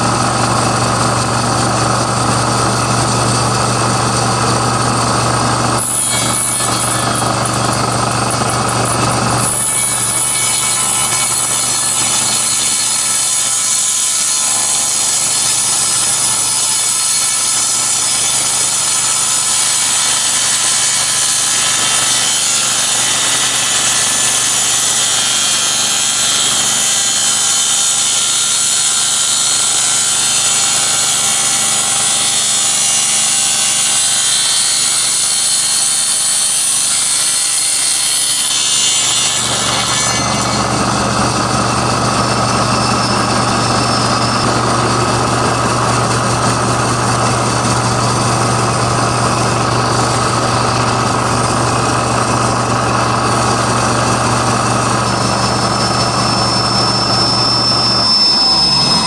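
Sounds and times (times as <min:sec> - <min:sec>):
table saw cutting aluminum: 0:00.0 - 0:59.0.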